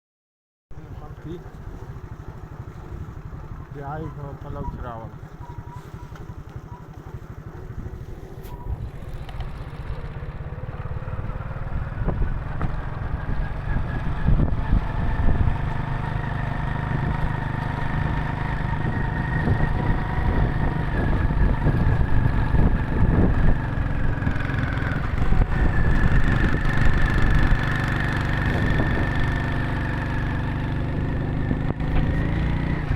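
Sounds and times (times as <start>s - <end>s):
vehicle engine rumbling: 0.7s - 32.9s.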